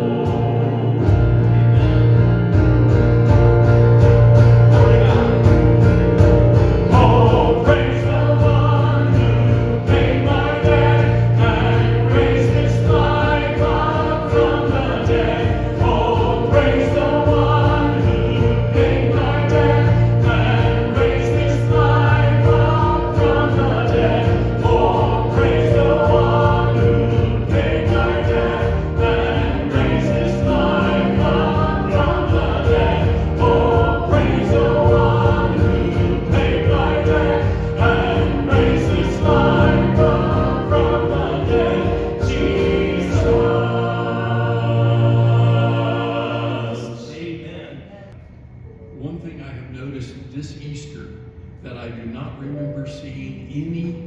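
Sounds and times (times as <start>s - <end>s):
instrumental accompaniment: 0.0s - 46.7s
choir and congregation singing hymn: 0.0s - 48.2s.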